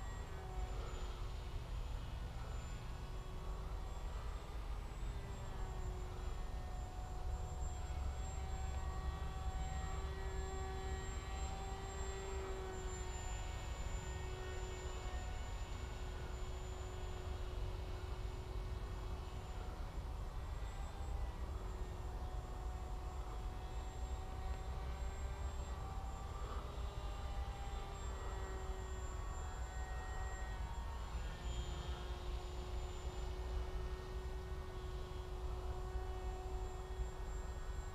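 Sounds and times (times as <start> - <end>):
model plane motor whining: 0.0 - 37.9.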